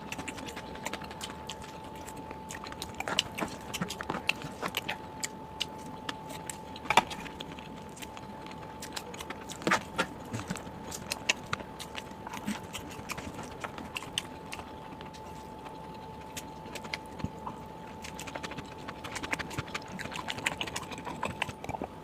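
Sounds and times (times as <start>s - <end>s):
food chewing and crunching: 0.0s - 22.0s.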